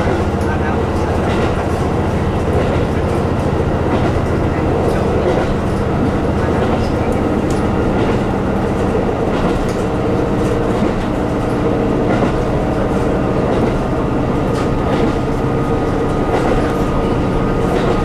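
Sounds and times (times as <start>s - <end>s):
wheel-on-rail rumble: 0.0s - 18.0s.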